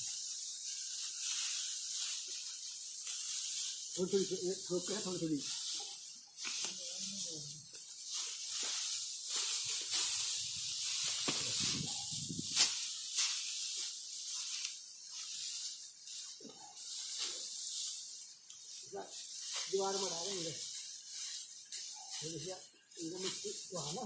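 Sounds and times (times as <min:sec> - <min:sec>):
dry straw rustling and crackling: 0:00.0 - 0:24.0.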